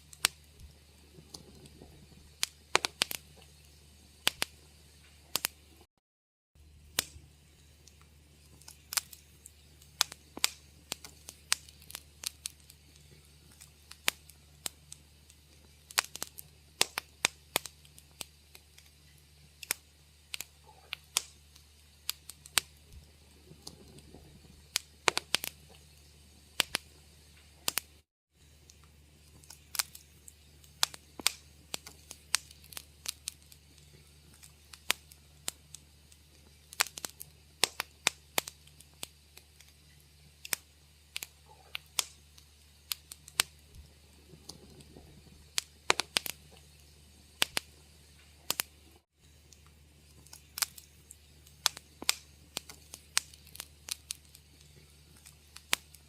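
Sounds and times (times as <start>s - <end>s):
faint low hum: 0.0s - 5.8s, 6.6s - 56.0s
wood fire crackling: 0.0s - 5.9s, 6.6s - 56.0s.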